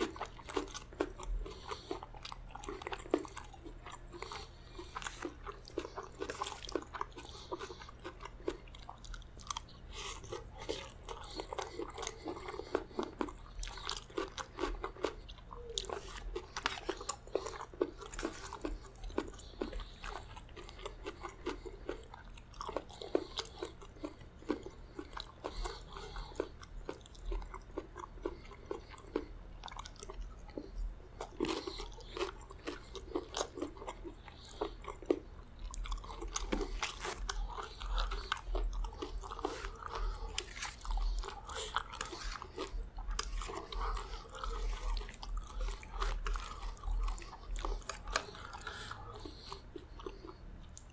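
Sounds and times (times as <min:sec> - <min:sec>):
wet crunchy chewing: 0:00.0 - 0:50.9.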